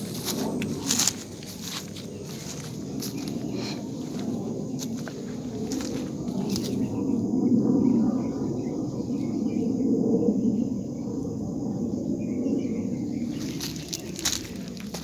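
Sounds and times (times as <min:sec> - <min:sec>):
insects trilling: 0:00.0 - 0:15.0
low rumbling drone from the sky: 0:00.0 - 0:15.0.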